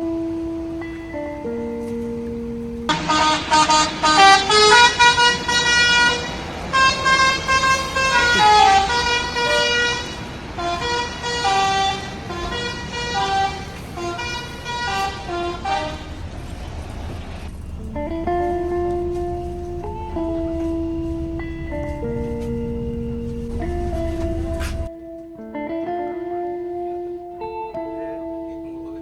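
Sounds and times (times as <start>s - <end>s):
multi-tone bus horn tune: 0.0s - 24.9s.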